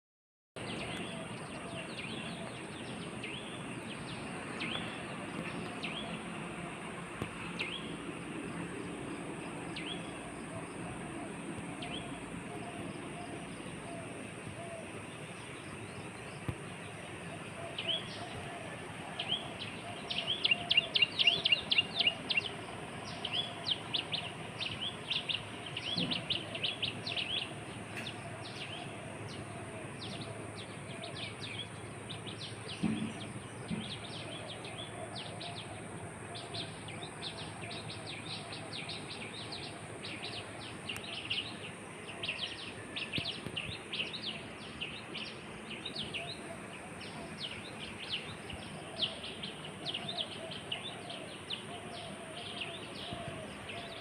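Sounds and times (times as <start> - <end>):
small birds chirping: 0.6 - 54.0.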